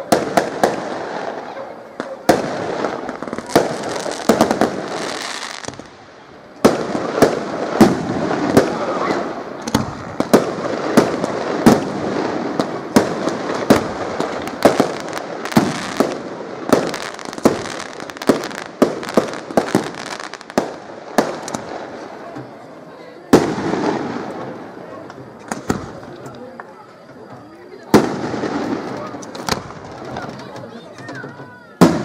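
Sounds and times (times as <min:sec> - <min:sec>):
fireworks bursting with sharp bangs: 0:00.0 - 0:32.0
fireworks crackling: 0:00.0 - 0:32.0.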